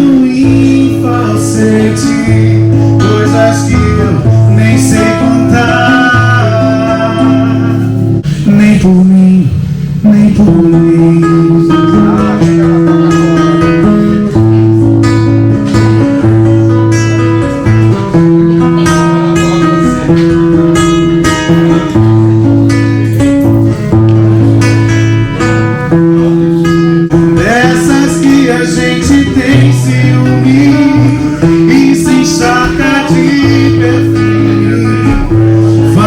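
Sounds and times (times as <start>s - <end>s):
bass line: 0.0s - 36.0s
strummed guitar chords: 0.0s - 36.0s.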